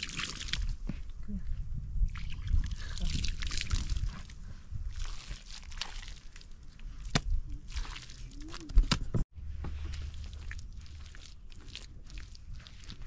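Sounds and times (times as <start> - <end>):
mud sloshing and squelching: 0.0 - 0.8, 2.0 - 8.9, 9.7 - 13.0.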